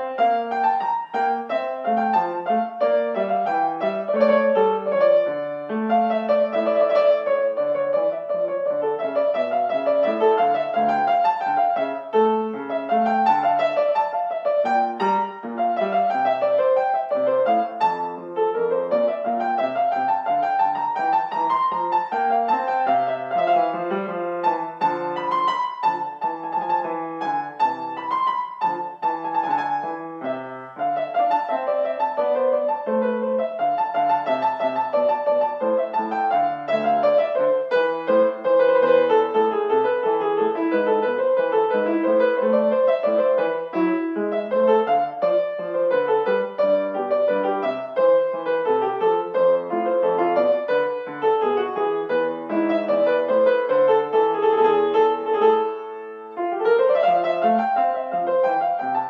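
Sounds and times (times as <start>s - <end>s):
grand piano piece: 0.0s - 59.0s.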